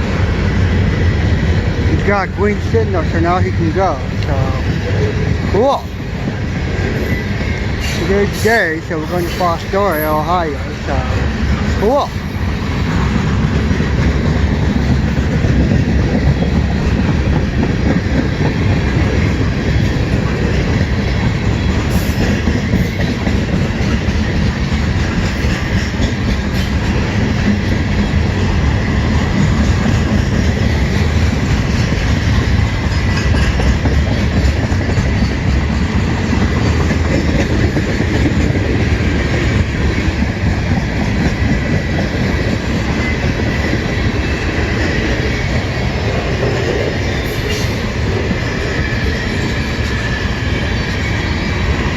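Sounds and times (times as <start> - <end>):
train wheels clattering: 0.0 - 51.9.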